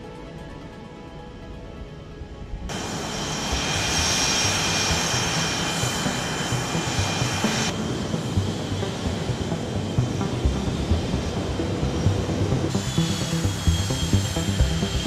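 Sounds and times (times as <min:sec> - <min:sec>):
jet engine whine: 0:01.1 - 0:15.0
jet engine roar: 0:02.7 - 0:15.0.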